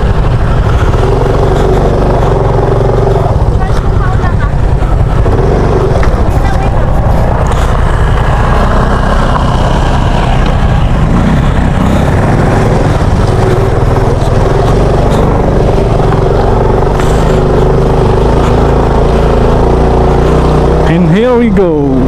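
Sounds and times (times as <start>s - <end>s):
small motorcycle engine running: 0.0s - 22.0s.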